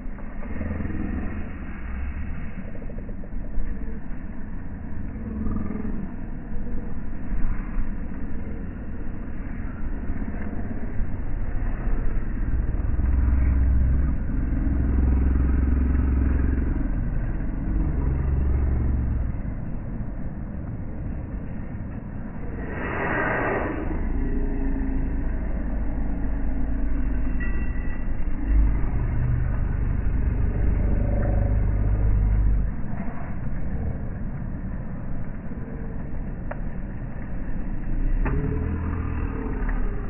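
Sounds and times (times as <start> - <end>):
low engine rumble: 0.0 - 40.0.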